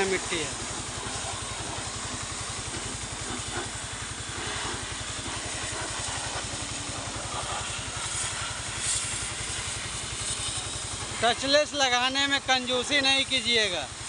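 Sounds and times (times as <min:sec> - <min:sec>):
pressure washer engine pulsing: 0:00.0 - 0:14.0
water jet hissing: 0:00.0 - 0:14.0.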